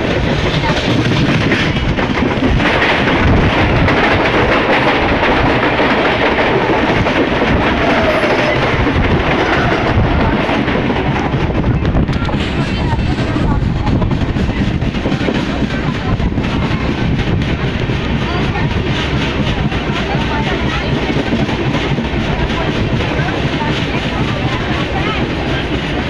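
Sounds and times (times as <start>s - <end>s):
passing train rumble: 0.0s - 26.0s
train wheels on rails: 0.0s - 26.0s.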